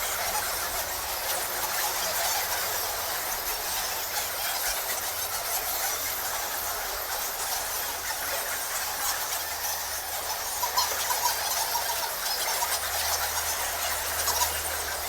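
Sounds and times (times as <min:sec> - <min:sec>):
bats squeaking and chittering: 0:00.0 - 0:15.0.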